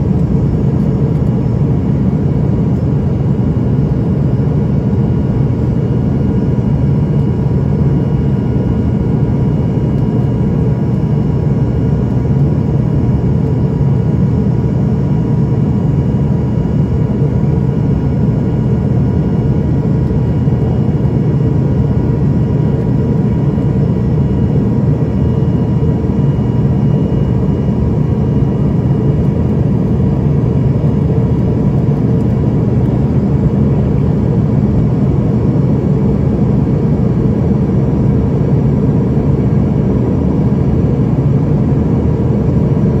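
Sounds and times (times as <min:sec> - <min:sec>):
faint steady whining tones: 0:00.0 - 0:43.0
jet engine drone: 0:00.0 - 0:43.0.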